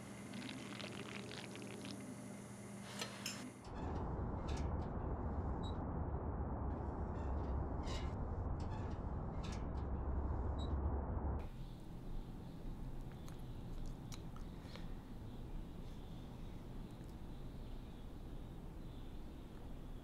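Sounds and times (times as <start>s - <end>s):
steady low rumble: 3.6s - 20.0s.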